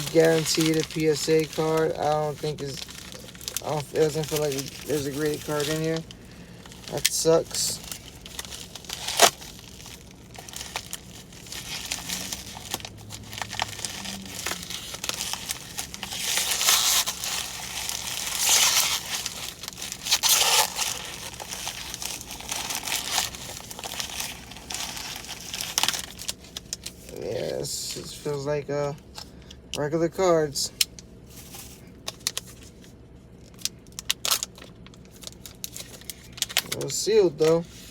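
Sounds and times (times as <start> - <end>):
packaging crinkling and tearing: 0.0 - 28.4, 30.8 - 37.9.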